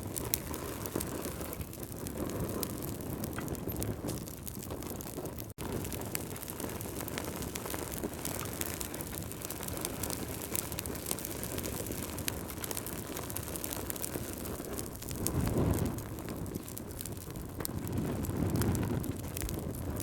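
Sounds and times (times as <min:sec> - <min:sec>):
logs crackling and popping: 0:00.0 - 0:20.0
low rush of flame: 0:00.0 - 0:20.0.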